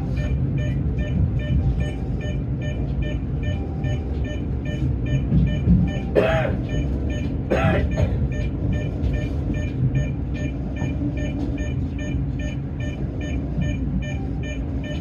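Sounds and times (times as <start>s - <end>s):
train rumbling: 0.0s - 15.0s
short electronic beeps: 0.1s - 15.0s.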